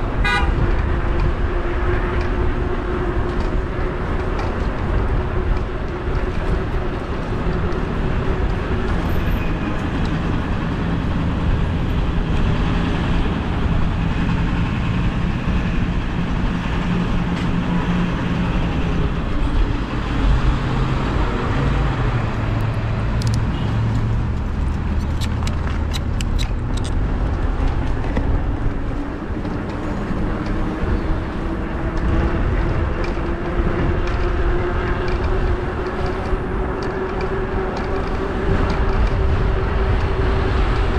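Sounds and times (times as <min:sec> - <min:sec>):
passing vehicles: 0:00.0 - 0:40.9
wind and road noise: 0:00.0 - 0:40.9.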